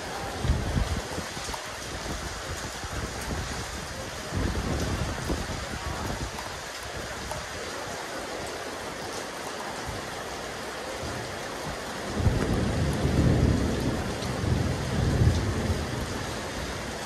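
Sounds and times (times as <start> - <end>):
rain falling on a rooftop: 0.0 - 17.0.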